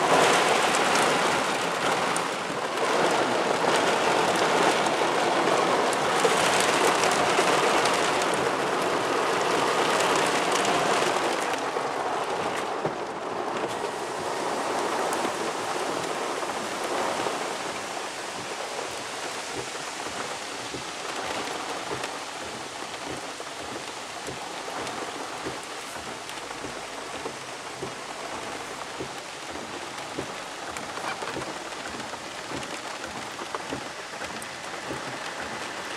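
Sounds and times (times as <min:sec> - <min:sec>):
heavy rain on car roof: 0:00.0 - 0:35.9.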